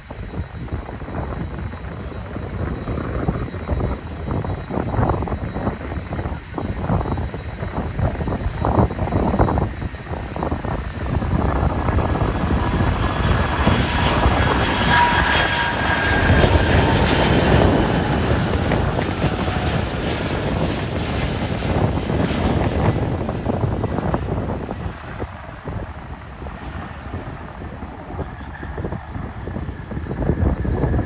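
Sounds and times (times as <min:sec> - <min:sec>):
jet airliner engines passing: 0:00.0 - 0:31.0
wind buffeting microphone: 0:00.0 - 0:31.0.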